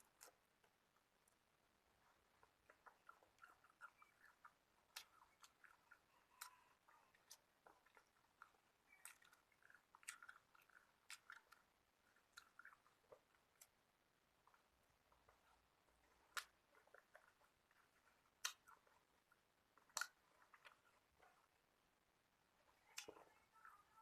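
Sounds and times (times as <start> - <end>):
chewing with mouth clicks: 0.0 - 21.7.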